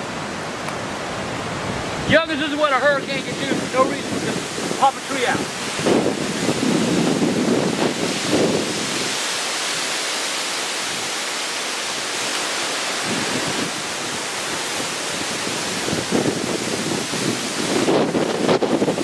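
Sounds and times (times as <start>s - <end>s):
hurricane wind rushing: 0.0s - 19.0s
wind buffeting microphone: 0.1s - 10.0s, 12.8s - 19.0s.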